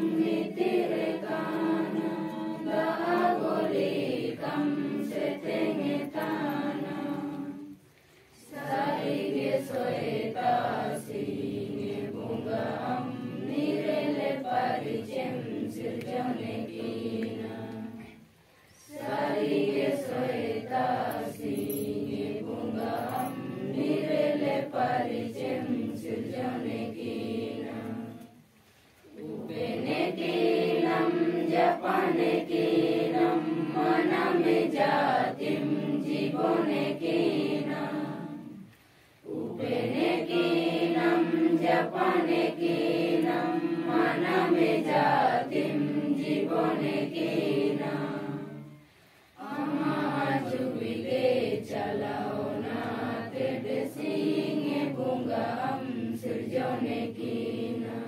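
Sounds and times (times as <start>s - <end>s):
group singing in unison: 0.0s - 58.0s.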